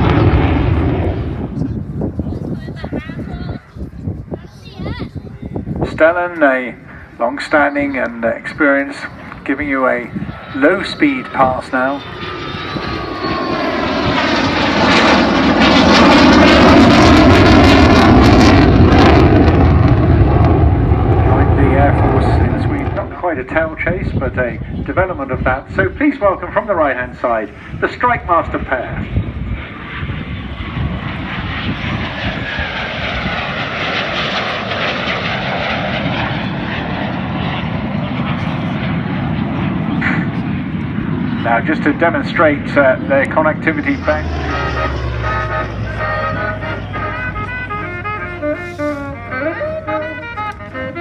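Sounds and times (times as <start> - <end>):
jet engine roar: 0.0 - 51.0.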